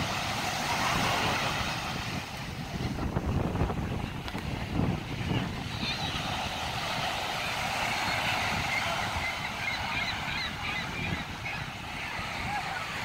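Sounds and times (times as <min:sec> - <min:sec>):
surf washing onto beach: 0:00.0 - 0:13.0
wind on microphone: 0:00.0 - 0:13.0.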